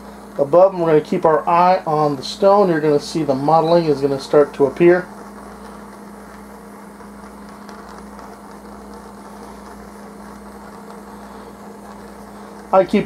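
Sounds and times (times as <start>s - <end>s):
steady hum: 0.0s - 13.0s
torch flame hissing: 0.0s - 13.0s.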